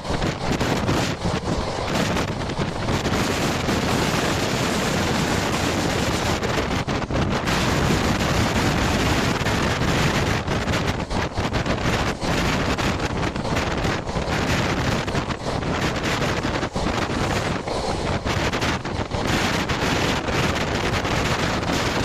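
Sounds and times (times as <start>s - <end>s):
train running rumble: 0.0s - 22.0s
wind buffeting microphone: 0.0s - 22.0s.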